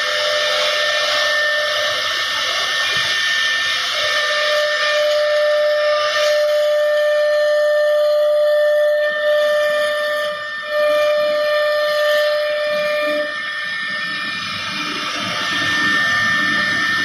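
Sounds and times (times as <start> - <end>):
cnc spindle high whine: 0.0 - 17.0
machine hiss: 0.0 - 17.0.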